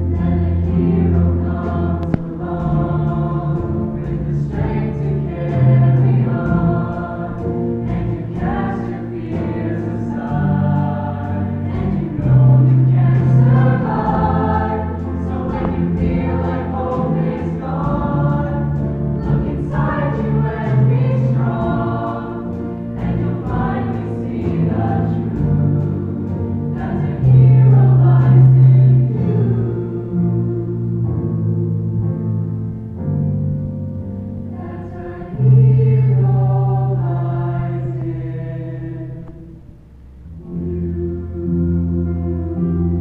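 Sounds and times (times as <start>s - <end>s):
choir of young voices singing: 0.0s - 31.4s, 34.5s - 39.7s, 40.4s - 43.0s
sustained low notes: 0.0s - 43.0s.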